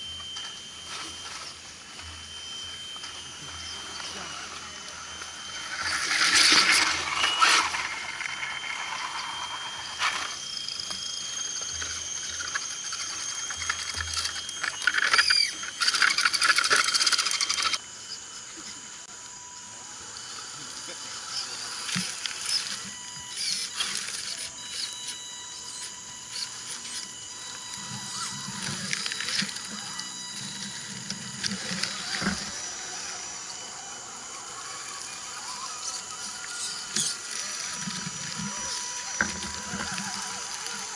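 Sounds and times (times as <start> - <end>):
rc truck motor whirring: 0.0 - 40.9.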